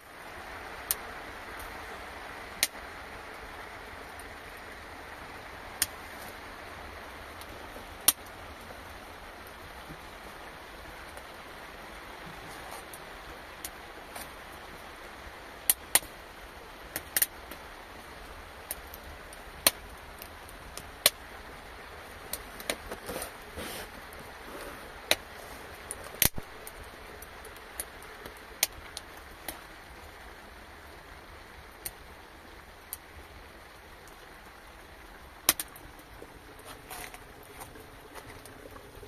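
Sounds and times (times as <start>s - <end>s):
rain hiss: 0.0s - 39.0s
sharp rain taps: 0.0s - 39.0s.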